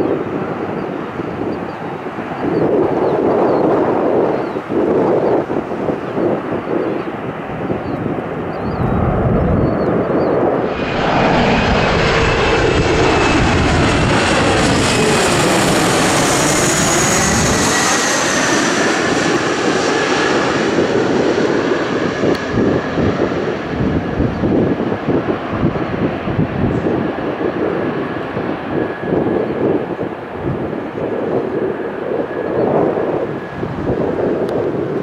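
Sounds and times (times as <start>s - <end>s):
jet passing overhead: 0.0s - 35.0s
wind buffeting microphone: 0.0s - 35.0s.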